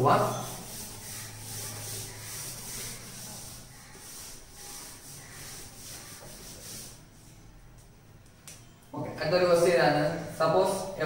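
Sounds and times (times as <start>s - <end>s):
duster wiping a whiteboard: 0.0s - 7.3s, 9.4s - 11.0s.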